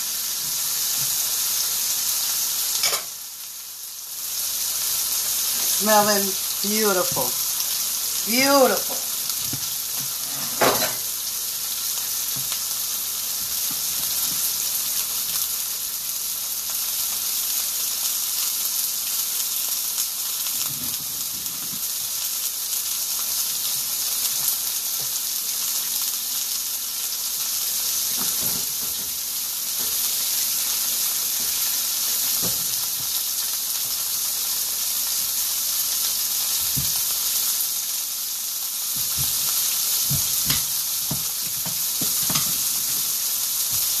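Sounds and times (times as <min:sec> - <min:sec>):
meat sizzling in a skillet: 0:00.0 - 0:44.0.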